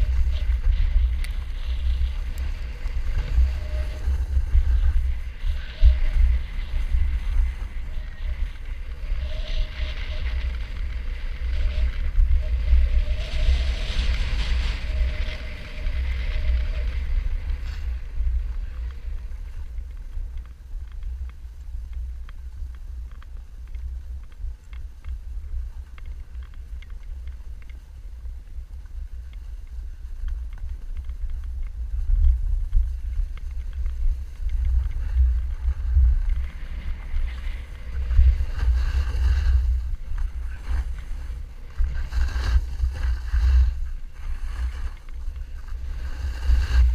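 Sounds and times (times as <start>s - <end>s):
snowboard scraping packed snow: 0.0s - 20.7s, 28.7s - 46.9s
wind buffeting microphone: 0.0s - 46.9s.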